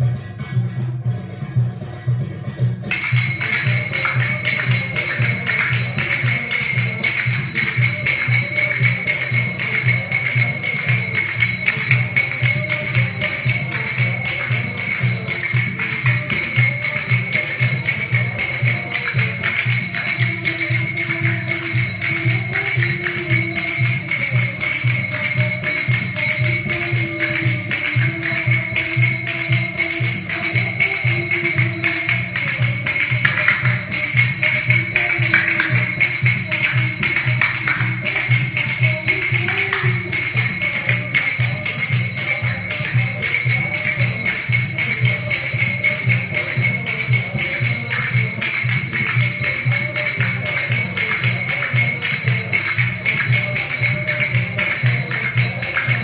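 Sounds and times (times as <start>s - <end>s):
belly dance music with drum beat: 0.0s - 56.0s
finger cymbals ringing: 2.9s - 56.0s.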